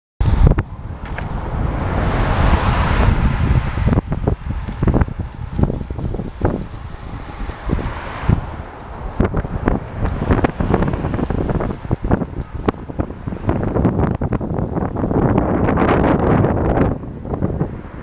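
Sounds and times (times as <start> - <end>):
wind buffeting microphone: 0.2 - 18.0.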